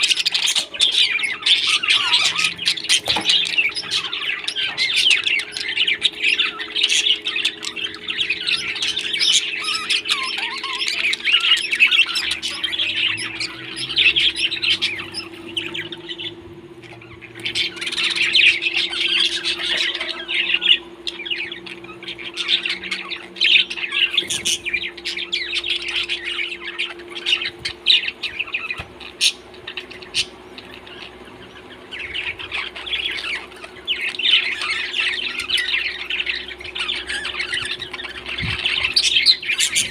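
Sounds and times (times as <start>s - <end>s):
parrots chirping and squawking: 0.0s - 39.9s
steady low hum: 0.0s - 39.9s.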